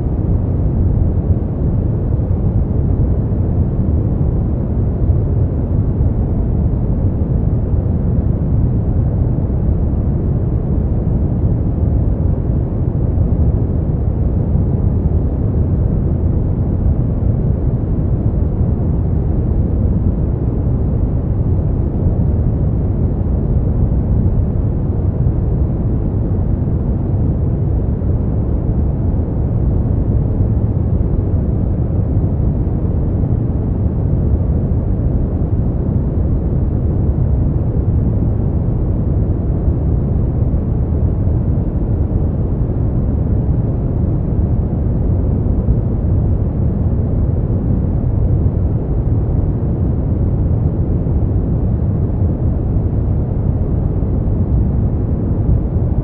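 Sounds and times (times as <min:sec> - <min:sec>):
deep brown noise rush: 0:00.0 - 0:56.0.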